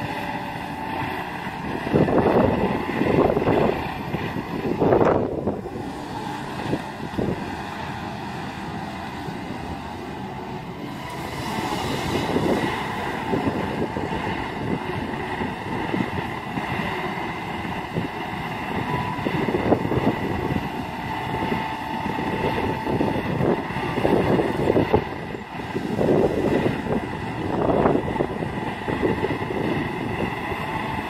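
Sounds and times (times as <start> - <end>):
excavator engine rumbling: 0.0 - 31.0.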